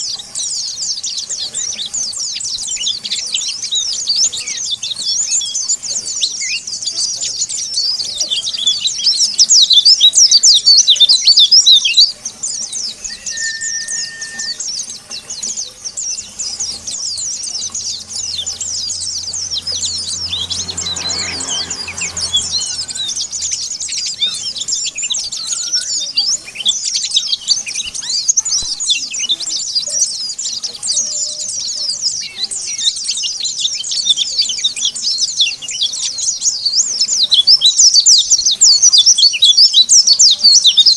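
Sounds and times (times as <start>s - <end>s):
birds chattering high chirps: 0.0s - 40.9s.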